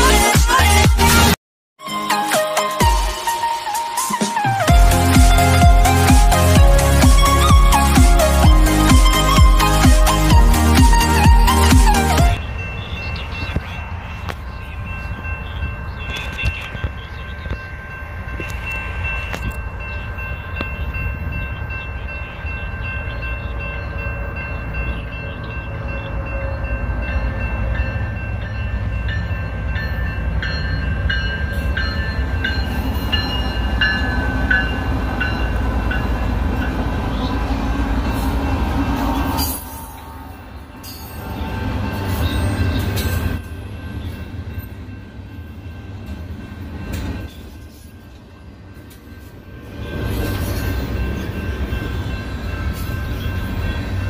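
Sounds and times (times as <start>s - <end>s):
crossing bell ringing: 1.8s - 54.0s
freight train rumbling: 4.7s - 54.0s.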